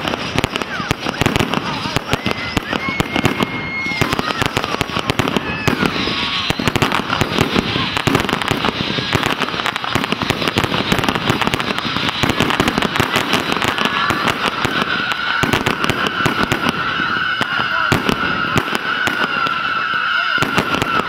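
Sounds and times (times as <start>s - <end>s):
fireworks bangs and crackles: 0.0s - 21.0s
high firework whistle: 0.0s - 21.0s.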